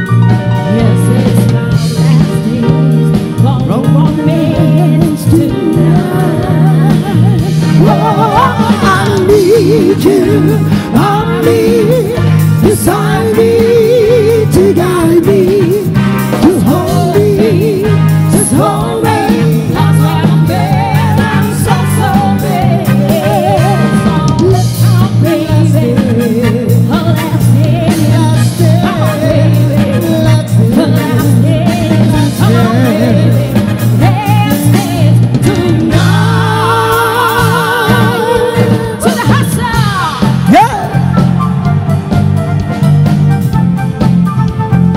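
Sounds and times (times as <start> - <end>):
bass: 0.0 - 44.9
drums: 0.0 - 44.9
electric guitar: 0.0 - 44.9
keyboard: 0.0 - 44.9
woman singing: 0.5 - 40.6.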